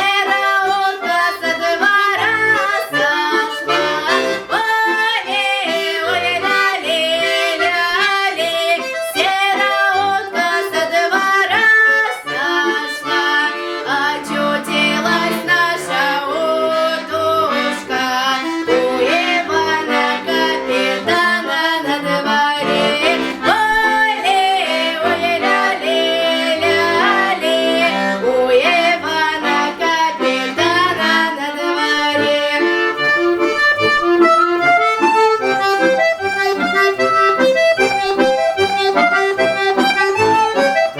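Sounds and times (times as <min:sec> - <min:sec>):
accordion playing folk tune: 0:00.0 - 0:40.9.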